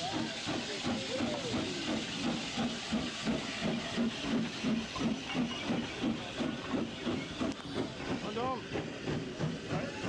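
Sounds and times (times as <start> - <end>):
steady hiss of steam: 0.0 - 10.0
steam locomotive exhaust chuffs: 0.0 - 10.0.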